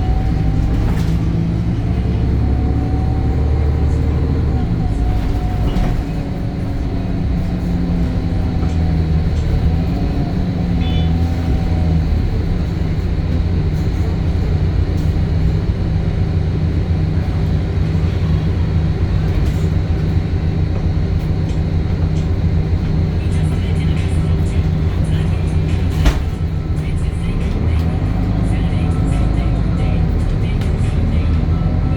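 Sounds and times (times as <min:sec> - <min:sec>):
bus engine droning: 0:00.0 - 0:31.9.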